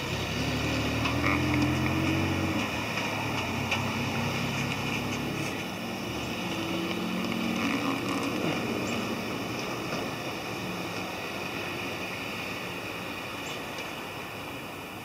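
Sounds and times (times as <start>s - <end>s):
tyres hissing on wet road: 0.0s - 15.0s
vehicle engines running: 0.0s - 15.0s.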